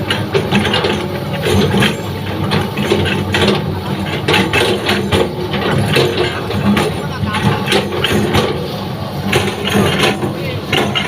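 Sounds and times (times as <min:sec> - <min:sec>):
diesel engine running: 0:00.0 - 0:11.0
mechanical clatter: 0:00.0 - 0:11.0.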